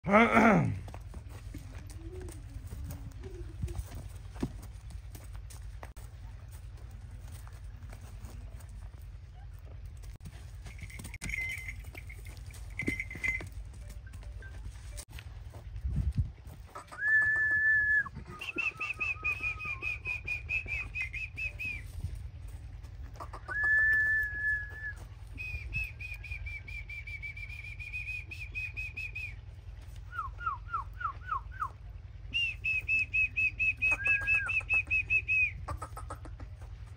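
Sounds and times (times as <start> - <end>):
steady low rumble: 0.1 - 36.9.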